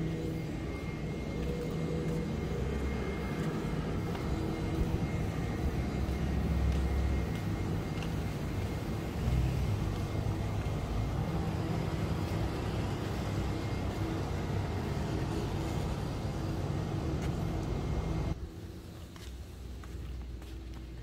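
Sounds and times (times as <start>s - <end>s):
vehicle rumbling: 0.0s - 21.0s.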